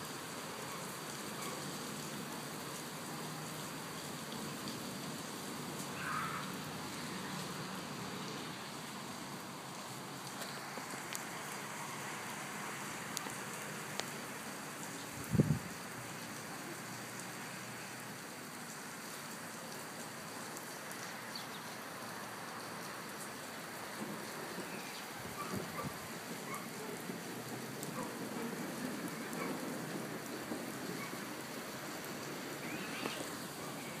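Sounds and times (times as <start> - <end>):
rain falling on pavement: 0.0 - 34.0.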